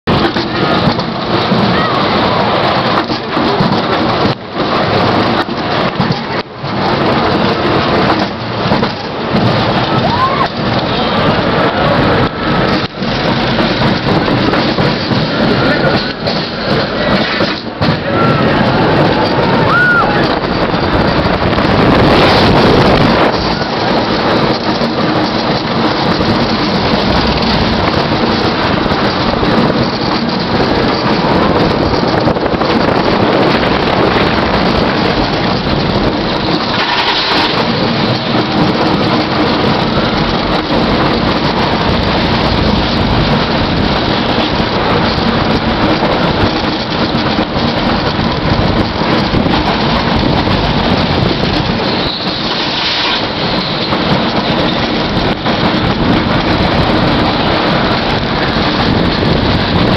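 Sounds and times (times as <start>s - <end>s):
roller coaster wheels rumbling: 0.0s - 59.9s
wind buffeting microphone: 0.0s - 59.9s.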